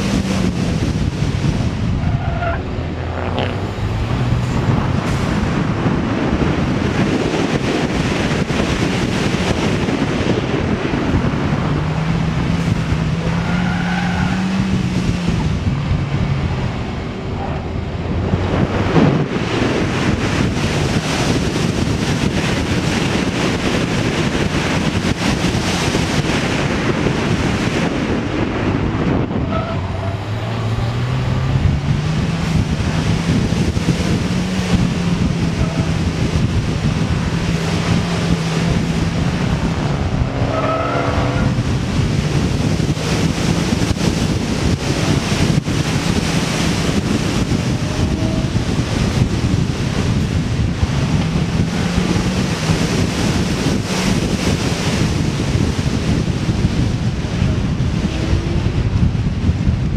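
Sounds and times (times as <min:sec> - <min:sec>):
car engine revving: 0:00.0 - 0:59.7
wind and tyre noise: 0:00.0 - 0:59.9.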